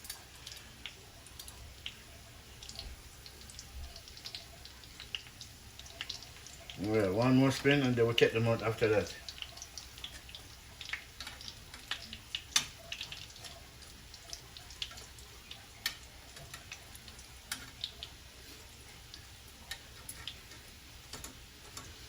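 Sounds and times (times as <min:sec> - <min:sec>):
food frying in hot oil: 0:00.0 - 0:22.0.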